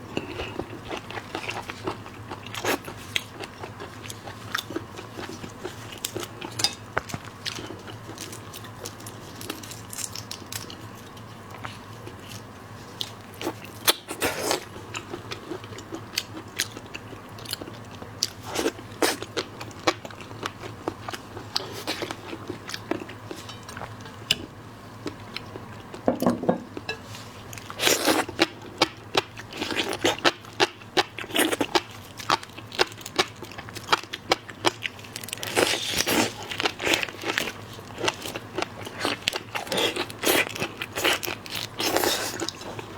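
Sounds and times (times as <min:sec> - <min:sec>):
crunching and chewing: 0:00.0 - 0:26.1, 0:26.8 - 0:42.9.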